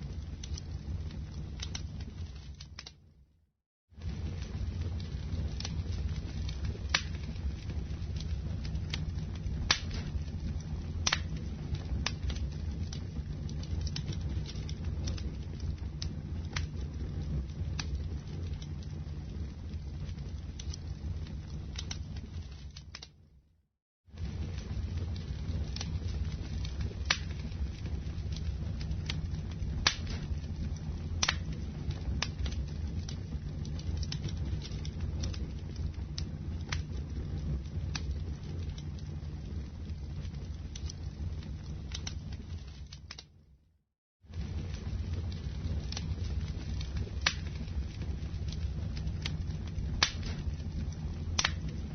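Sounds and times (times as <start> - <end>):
wood fire crackling and popping: 0.0 - 3.3, 4.0 - 23.4, 24.1 - 43.6, 44.3 - 51.9.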